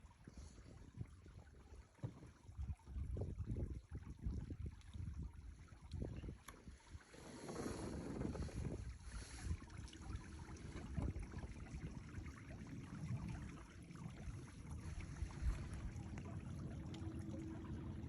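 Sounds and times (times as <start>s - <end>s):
low uneven rumble: 0.0s - 18.0s
water sloshing and gurgling: 0.0s - 18.0s.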